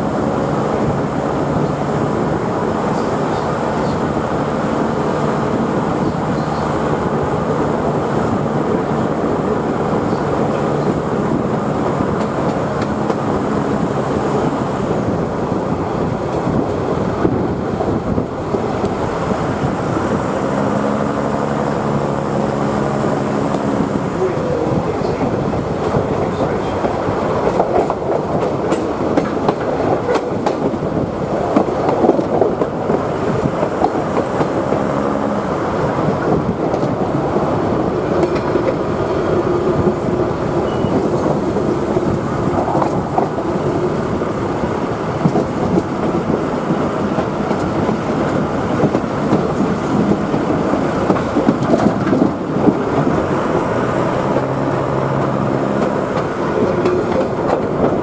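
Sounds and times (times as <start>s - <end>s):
low engine hum: 0.0s - 58.0s
train wheels rumbling on rails: 0.0s - 58.0s.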